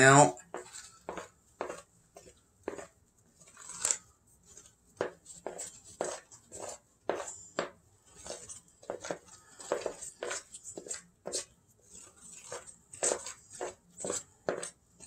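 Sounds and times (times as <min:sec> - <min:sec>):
spoon stirring dough in glass bowl: 0:00.0 - 0:15.0.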